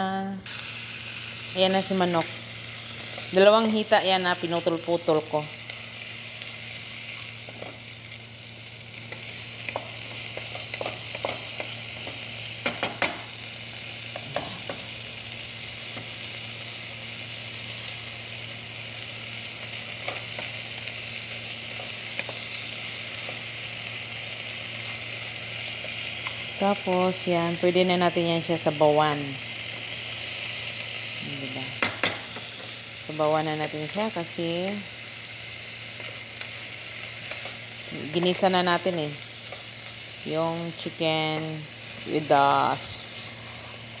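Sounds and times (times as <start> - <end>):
chicken sizzling in oil: 0.4 - 44.0.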